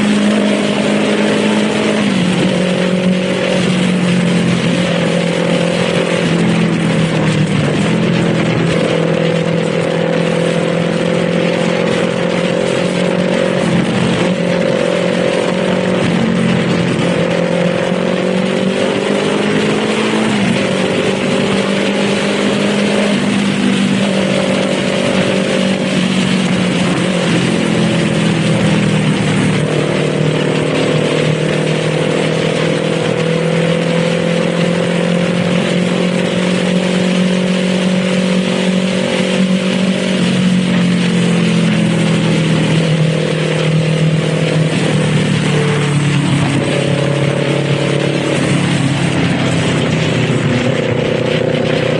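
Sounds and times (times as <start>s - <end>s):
motorcycle engine revving: 0.0s - 51.9s
rushing noise: 0.0s - 51.9s.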